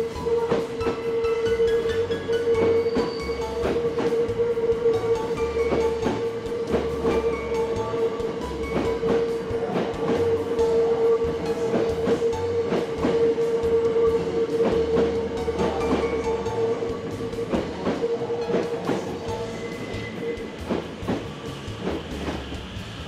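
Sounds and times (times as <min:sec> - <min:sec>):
electric train passing: 0:00.0 - 0:23.0
music with steady beat: 0:00.0 - 0:23.0.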